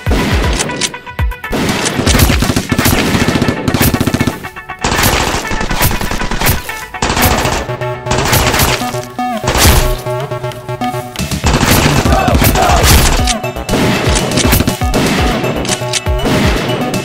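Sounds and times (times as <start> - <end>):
background music: 0.0 - 17.0
automatic gunfire sound effects: 1.5 - 10.0, 11.4 - 17.0.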